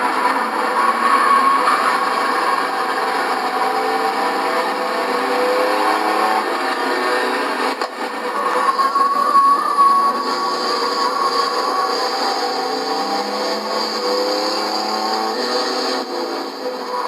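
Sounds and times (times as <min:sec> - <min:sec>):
race truck engines at speed: 0:00.0 - 0:17.0.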